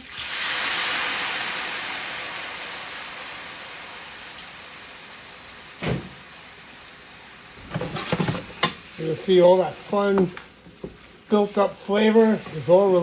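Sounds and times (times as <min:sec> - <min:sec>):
wine sizzling in a hot pan: 0:00.0 - 0:13.0.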